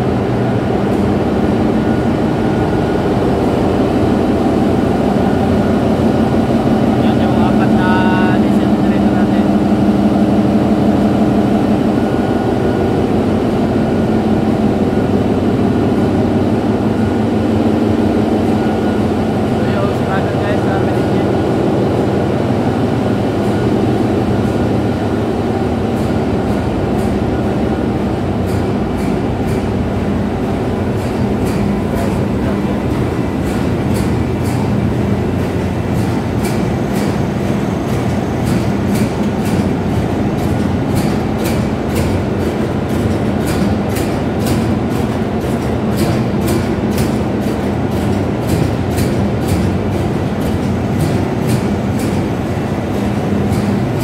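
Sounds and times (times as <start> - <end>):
engine-room machinery drone: 0.0 - 54.0.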